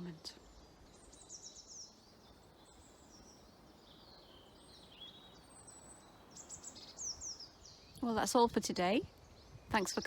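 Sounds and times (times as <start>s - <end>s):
birds chirping and trilling: 0.0s - 10.0s.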